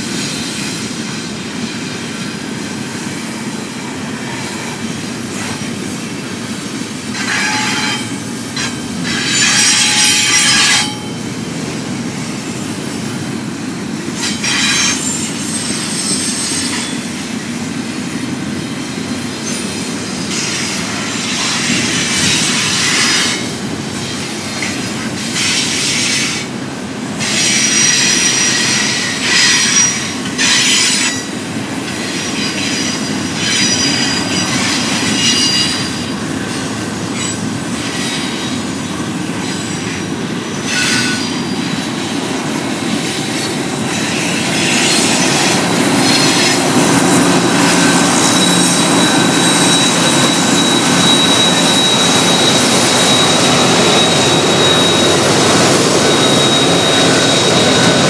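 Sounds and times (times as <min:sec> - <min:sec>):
freight train cars rolling past: 0:00.0 - 0:58.0
high wheel squeal: 0:02.7 - 0:11.2, 0:14.1 - 0:26.5, 0:27.2 - 0:58.0.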